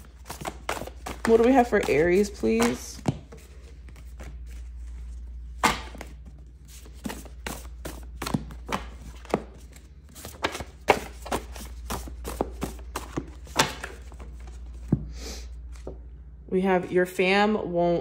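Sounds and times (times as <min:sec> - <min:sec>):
cards shuffling and tapping: 0:00.0 - 0:16.0
low steady hum: 0:00.0 - 0:18.0.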